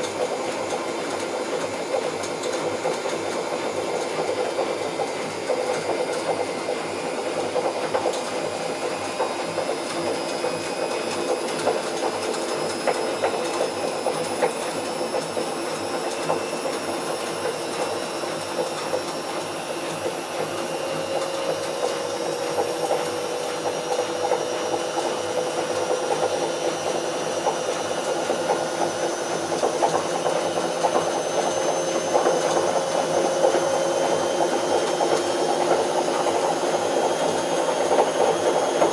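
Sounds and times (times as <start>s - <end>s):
washing machine drum turning: 0.0s - 38.9s.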